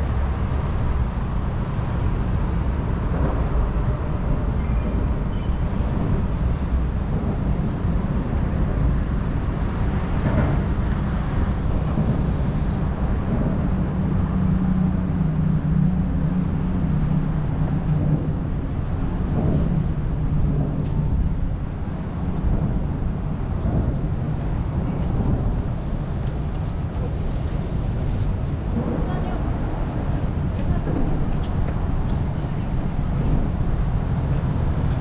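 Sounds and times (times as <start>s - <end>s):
engine hum: 0.0s - 35.0s
passing vehicles rumble: 0.0s - 35.0s.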